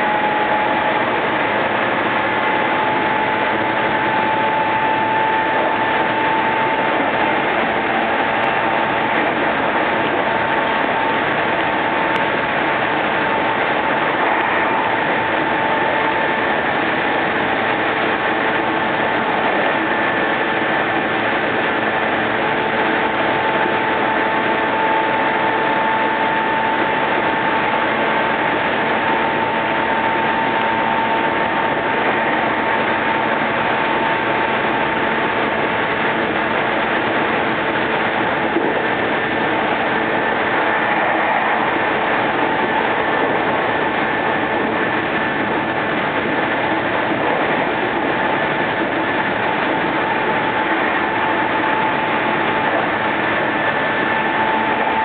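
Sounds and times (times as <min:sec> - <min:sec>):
electric train rolling: 0:00.0 - 0:55.0
train motor whine: 0:00.0 - 0:55.0.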